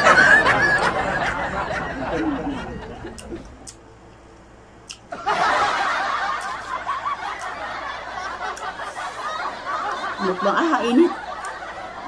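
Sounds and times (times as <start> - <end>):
laughter sound effect: 0.0 - 3.5, 5.1 - 12.0.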